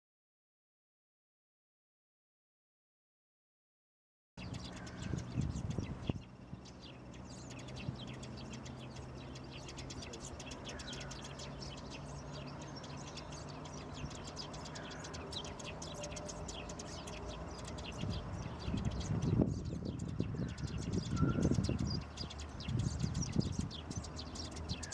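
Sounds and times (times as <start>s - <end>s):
sparrows chirping: 4.4s - 24.9s.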